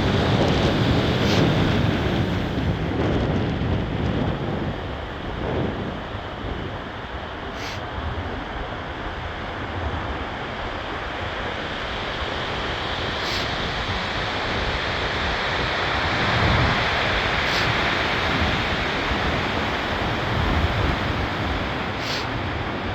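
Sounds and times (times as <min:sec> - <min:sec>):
storm waves crashing on shore: 0:00.0 - 0:22.9
strong wind: 0:00.0 - 0:22.9
wind buffeting microphone: 0:00.0 - 0:22.9.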